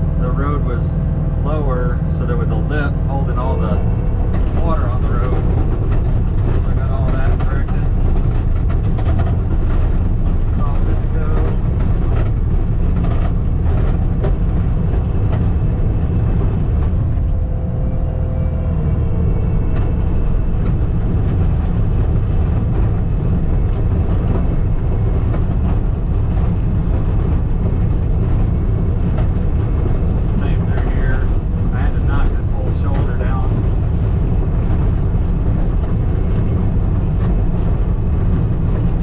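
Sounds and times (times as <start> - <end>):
skid steer engine running: 0.0 - 39.0
knocks and rattles: 3.4 - 17.6, 19.2 - 39.0.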